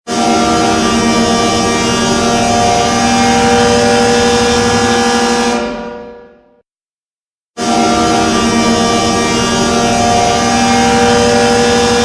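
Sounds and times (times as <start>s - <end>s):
ice hockey goal horn: 0.1s - 6.5s, 7.6s - 12.0s.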